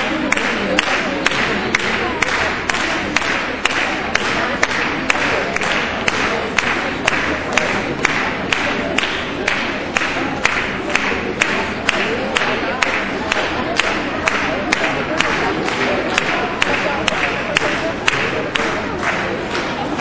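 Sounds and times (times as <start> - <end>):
crowd clapping in time: 0.0 - 20.0
hall crowd noise: 0.0 - 20.0.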